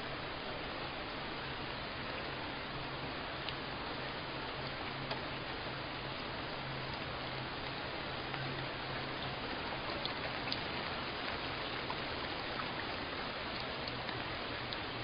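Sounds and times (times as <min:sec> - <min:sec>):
faint low hum: 0:00.0 - 0:15.0
steady rain falling: 0:00.0 - 0:15.0.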